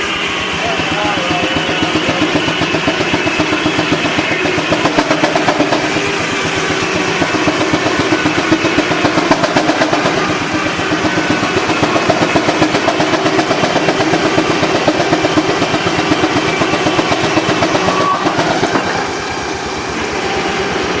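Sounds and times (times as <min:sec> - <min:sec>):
steam traction engine exhaust beating: 0:00.0 - 0:21.0.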